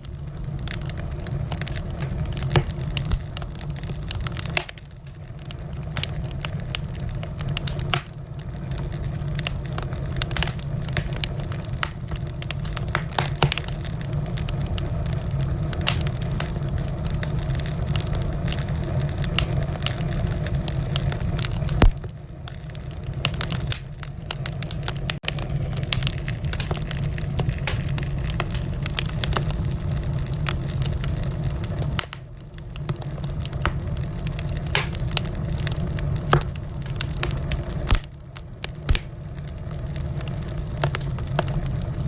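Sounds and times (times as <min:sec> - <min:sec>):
fire crackling and popping: 0:00.0 - 0:42.0
fire flame rumble: 0:00.0 - 0:42.0.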